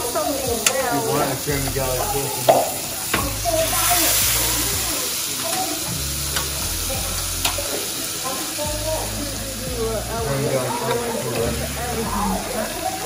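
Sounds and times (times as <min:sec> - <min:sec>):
fish sizzling in frying oil: 0:00.0 - 0:13.0.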